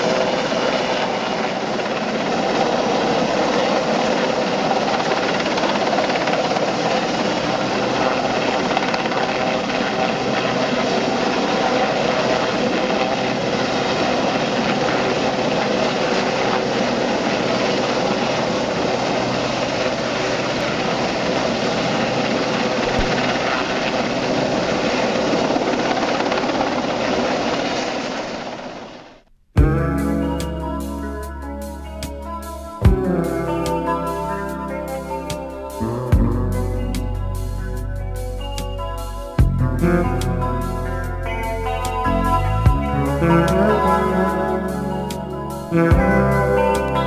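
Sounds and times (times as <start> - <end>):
helicopter rotor and turbines: 0.0 - 47.0.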